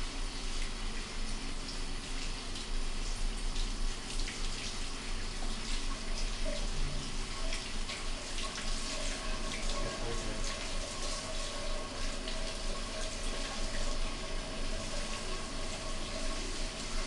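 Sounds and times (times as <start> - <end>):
hose water splashing on tiles: 0.0 - 17.0.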